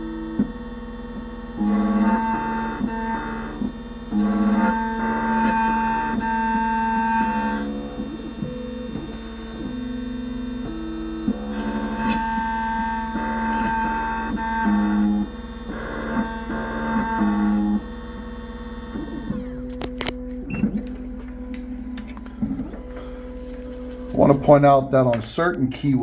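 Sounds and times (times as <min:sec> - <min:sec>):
key-cutting machine motors: 0:00.0 - 0:26.0.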